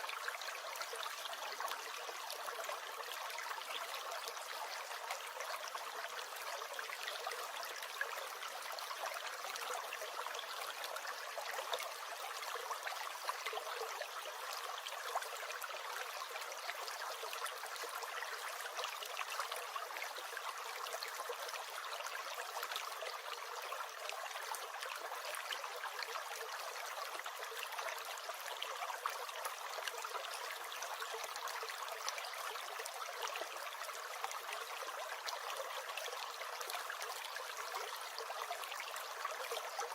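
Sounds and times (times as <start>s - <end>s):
stream gurgling and trickling: 0.0s - 39.9s.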